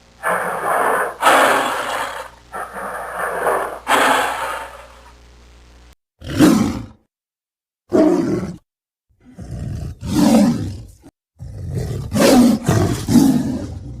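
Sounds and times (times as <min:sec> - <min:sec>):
tiger roaring: 0:00.2 - 0:05.1, 0:06.2 - 0:07.0, 0:07.9 - 0:08.6, 0:09.2 - 0:14.0.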